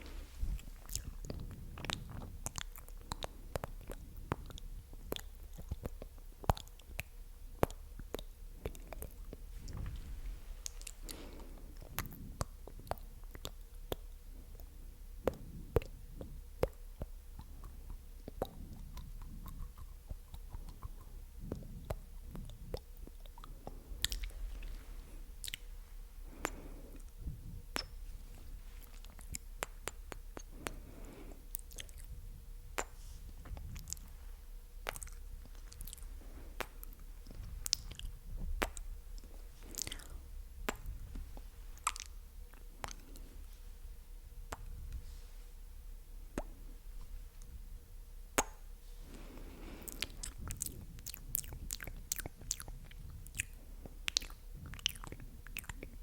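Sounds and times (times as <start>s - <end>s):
lip smacks: 0.0s - 43.7s, 44.4s - 45.1s, 46.2s - 47.6s, 48.3s - 56.0s
wet mouth clicks and pops: 0.5s - 10.0s, 11.8s - 24.8s, 25.4s - 25.7s, 26.4s - 28.1s, 28.8s - 30.8s, 31.5s - 32.1s, 32.7s - 34.1s, 34.8s - 43.3s, 44.5s - 44.9s, 46.3s - 47.5s, 48.3s - 48.7s, 49.9s - 56.0s.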